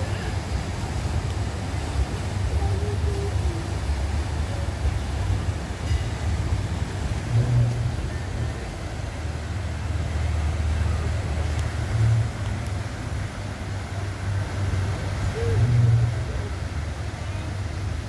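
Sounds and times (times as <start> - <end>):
boat engine rumble: 0.0 - 18.0
rushing water hiss: 0.0 - 18.0.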